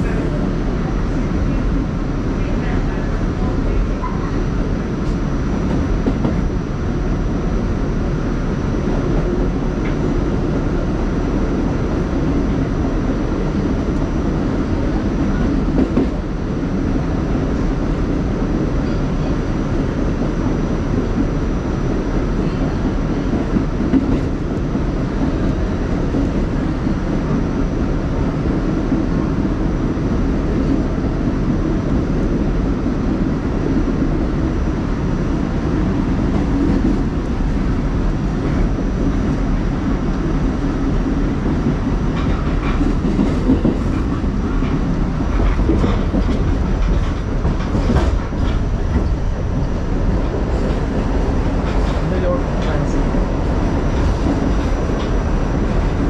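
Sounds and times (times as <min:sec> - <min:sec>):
subway car rumbling on rails: 0:00.0 - 0:56.0.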